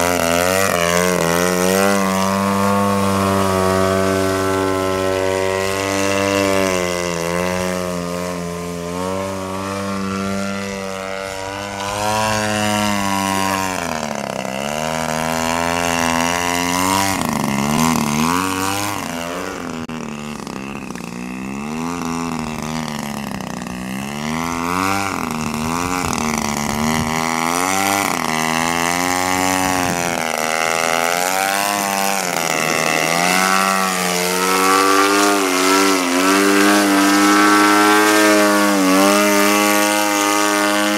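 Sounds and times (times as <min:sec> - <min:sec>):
model plane engine in flight: 0:00.0 - 0:40.9.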